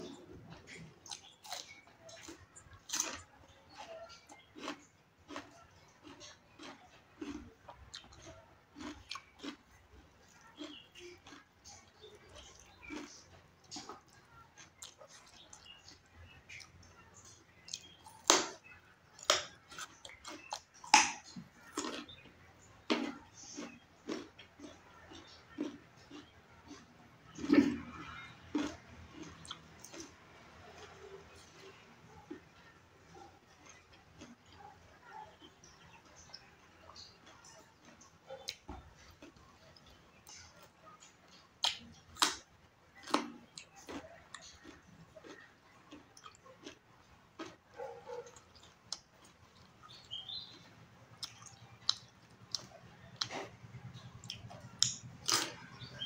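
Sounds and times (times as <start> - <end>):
wet chewing and lip smacks: 0.0 - 32.5, 33.1 - 56.0.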